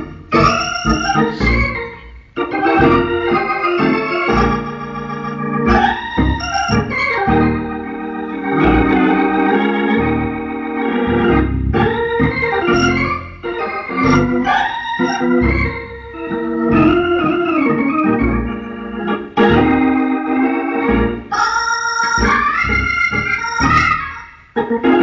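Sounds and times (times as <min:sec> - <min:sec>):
organ chords: 0:00.0 - 0:25.0.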